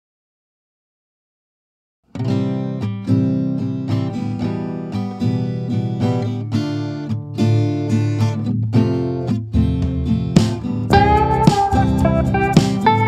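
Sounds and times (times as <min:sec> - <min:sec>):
acoustic guitar strumming: 0:02.1 - 0:13.0.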